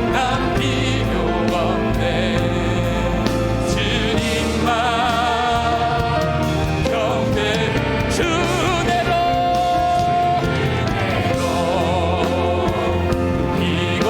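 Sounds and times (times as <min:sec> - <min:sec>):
band playing worship song: 0:00.0 - 0:14.0
singers holding long notes: 0:00.0 - 0:14.0.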